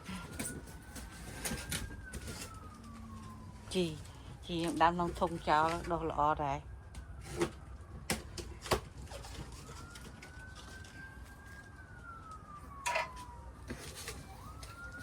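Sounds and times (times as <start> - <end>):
faint siren wailing: 0.0 - 15.0.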